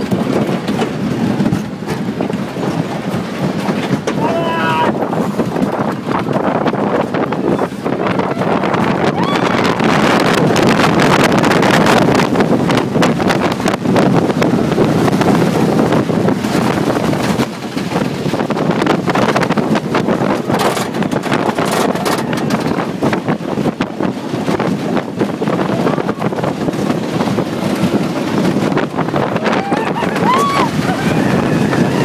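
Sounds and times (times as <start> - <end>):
roller coaster rattling on track: 0.0 - 32.0
wind rushing over microphone: 0.0 - 32.0.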